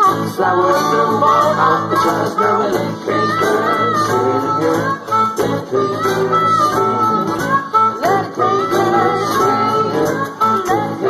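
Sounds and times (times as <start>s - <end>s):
acoustic guitar: 0.0s - 11.0s
harmonica bending notes: 0.0s - 11.0s
person singing: 0.0s - 11.0s.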